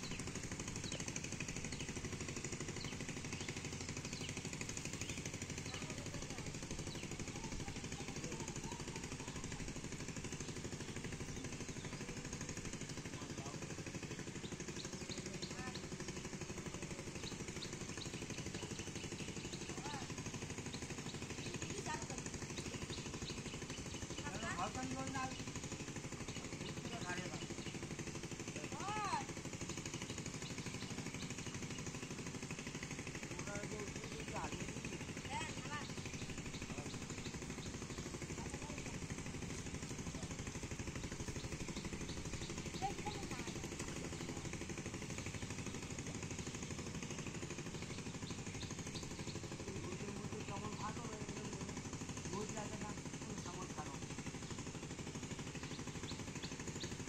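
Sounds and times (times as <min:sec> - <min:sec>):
small engine puttering: 0:00.0 - 0:57.0.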